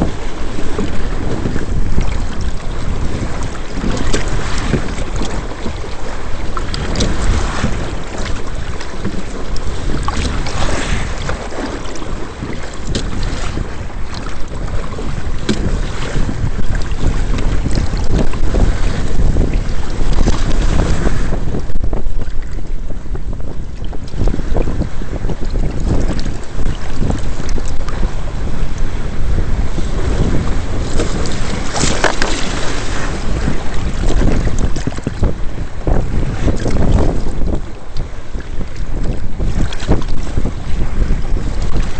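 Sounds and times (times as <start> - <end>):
water splashing: 0.0 - 22.5, 25.5 - 41.9
kayak hull rushing through water: 0.0 - 41.9
wave slaps: 0.0 - 41.9
wind buffeting microphone: 0.0 - 41.9.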